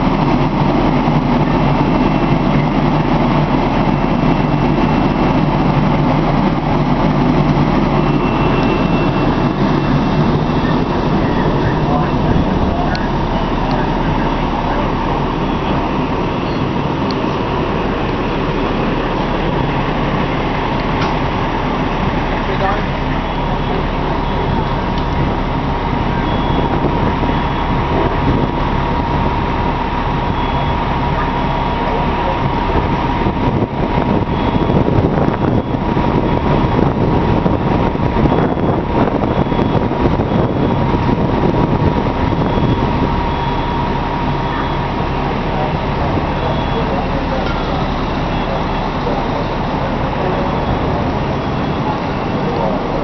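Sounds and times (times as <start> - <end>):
fire engines droning: 0.0 - 53.0
high whine: 0.0 - 53.0.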